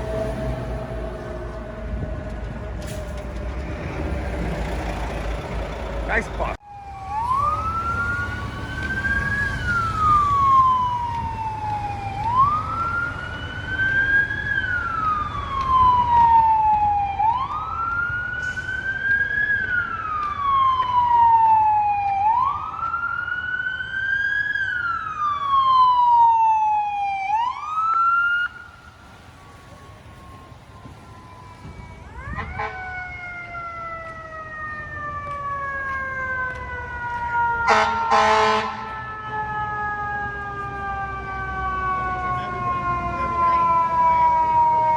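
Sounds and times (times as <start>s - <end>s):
fire truck siren wailing: 0.0s - 44.9s
low traffic rumble: 0.0s - 44.9s.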